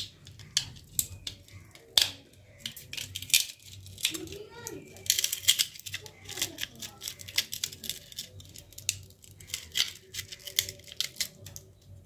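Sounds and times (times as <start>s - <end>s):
small phone parts clicking and rattling: 0.0s - 12.0s.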